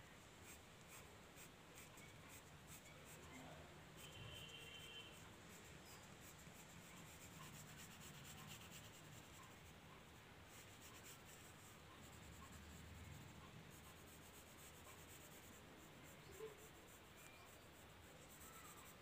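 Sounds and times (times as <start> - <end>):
pencil scratching on paper: 0.4 - 19.0.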